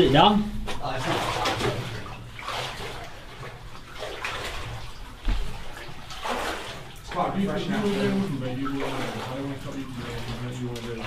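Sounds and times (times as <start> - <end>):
water sloshing from wading: 0.0 - 11.0.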